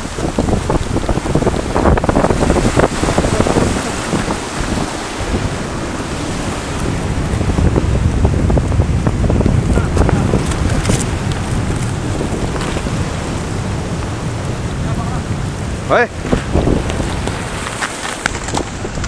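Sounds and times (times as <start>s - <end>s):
waves breaking over rocks: 0.0s - 19.0s
wind buffeting microphone: 0.0s - 19.0s.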